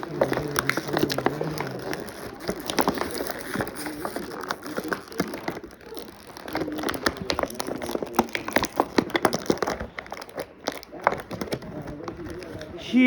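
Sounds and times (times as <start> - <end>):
plastic clicks and snaps: 0.0 - 12.7
plastic packaging crinkling: 0.0 - 13.0.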